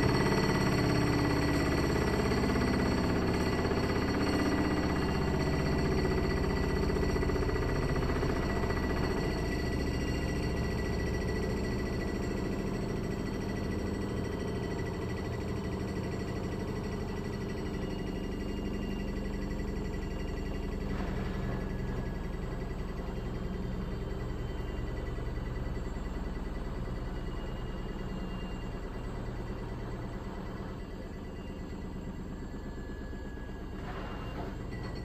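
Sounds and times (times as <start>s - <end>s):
washing machine spin hum: 0.0s - 35.0s.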